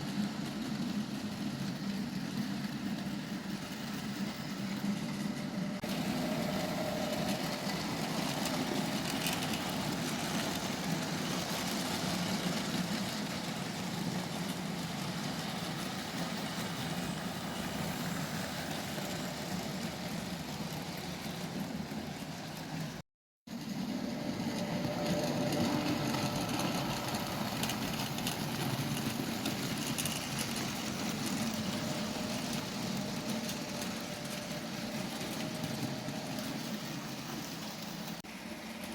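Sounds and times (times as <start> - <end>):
wheels rolling on track: 0.0 - 38.9.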